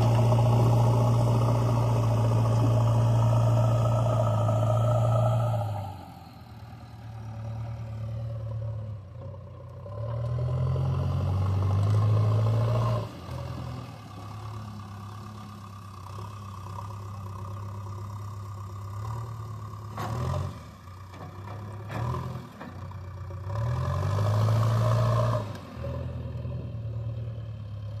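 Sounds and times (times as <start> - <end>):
diesel engine revving: 0.0 - 20.9, 23.3 - 27.4.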